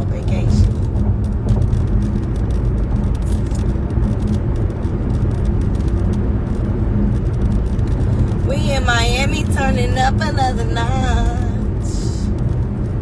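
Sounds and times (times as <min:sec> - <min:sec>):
road rumble inside moving car: 0:00.0 - 0:13.0.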